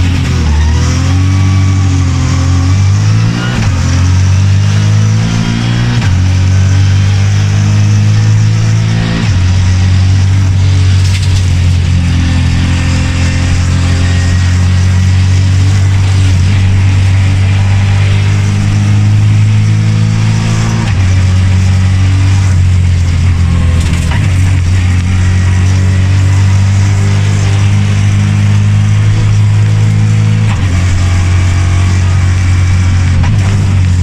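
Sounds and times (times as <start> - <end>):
rally car engine running hard: 0.0 - 34.0.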